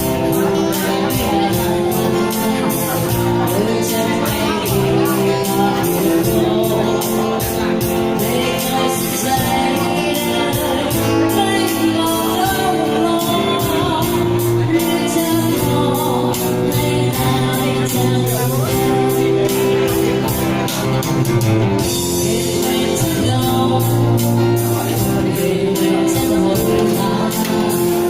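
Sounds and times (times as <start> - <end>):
live band music: 0.0 - 28.0
person singing: 0.0 - 28.0
steady drum beat: 0.0 - 28.0.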